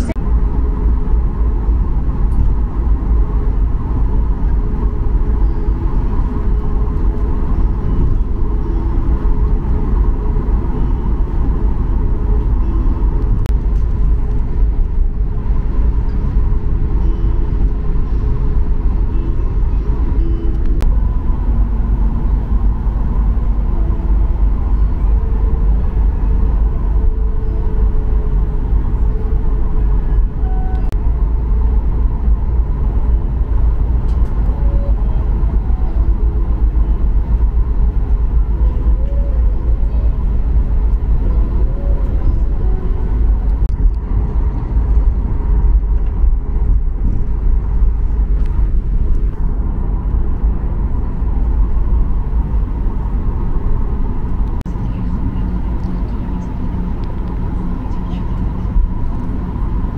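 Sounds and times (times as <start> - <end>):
jet engines at taxi power: 0.0 - 59.9
wheels rolling on taxiway: 0.0 - 59.9.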